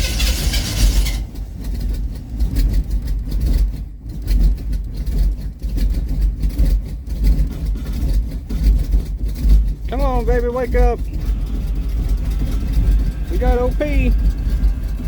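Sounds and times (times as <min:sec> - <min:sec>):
engine cranking cold start: 0:00.0 - 0:15.0.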